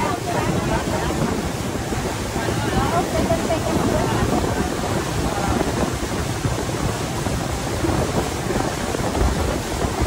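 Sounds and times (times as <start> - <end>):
water hissing along hull: 0.0 - 10.0
wind buffeting microphone: 0.0 - 10.0.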